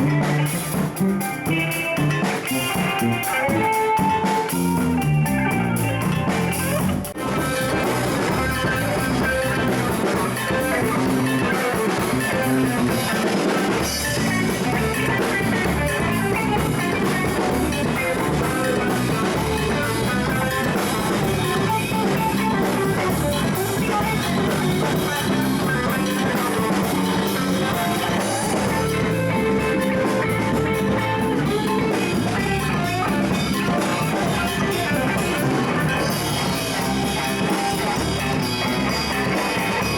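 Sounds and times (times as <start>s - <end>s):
rock band jamming: 0.0s - 39.9s.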